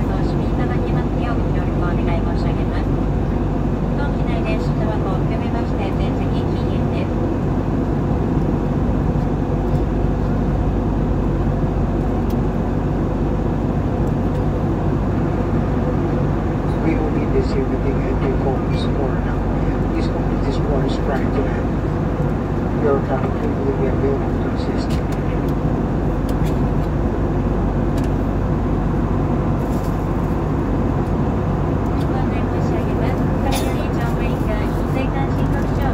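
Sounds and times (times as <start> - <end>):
airliner cabin engine rumble: 0.0 - 35.9.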